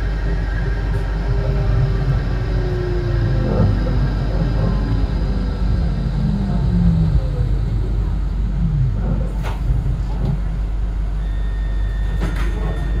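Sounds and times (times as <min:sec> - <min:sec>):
tram rumble: 0:00.0 - 0:13.0.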